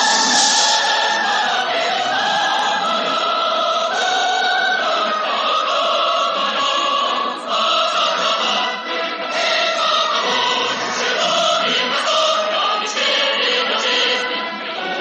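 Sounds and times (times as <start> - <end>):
choir singing slow anthem: 0.0 - 15.0.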